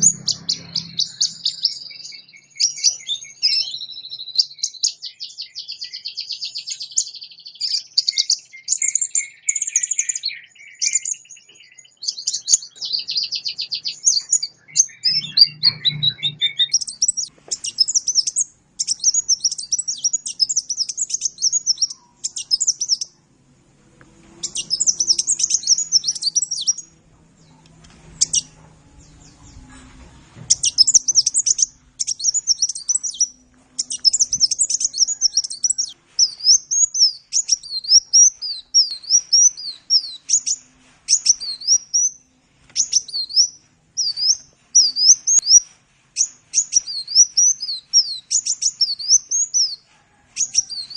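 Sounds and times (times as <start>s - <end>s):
sunbird twittering song: 0.0s - 23.2s, 24.4s - 49.8s.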